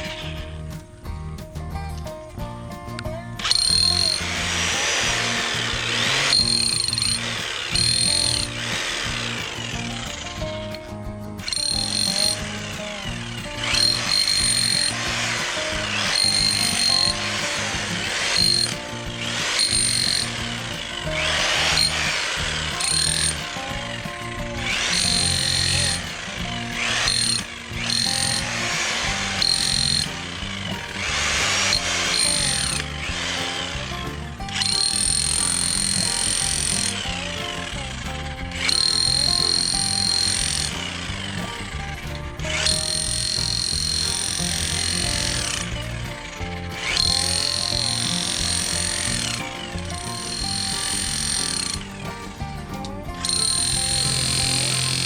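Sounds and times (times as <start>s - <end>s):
background music: 0.0s - 55.0s
demolition hammer breaking soil: 3.4s - 55.0s.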